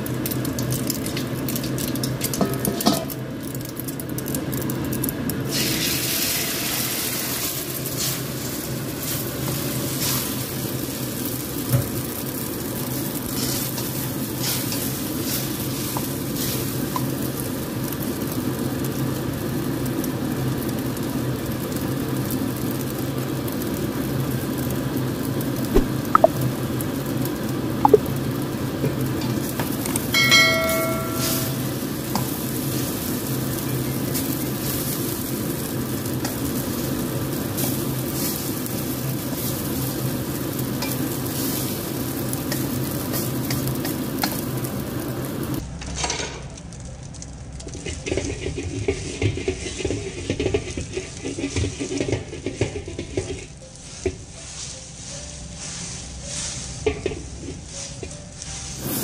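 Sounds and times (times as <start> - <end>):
omelette sizzling in oil: 0.0 - 45.6, 46.4 - 59.0.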